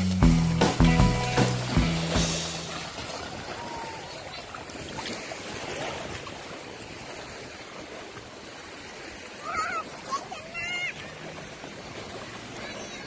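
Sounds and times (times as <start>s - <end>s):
water splashing and sloshing: 0.2s - 13.0s
small waves lapping: 0.6s - 13.0s.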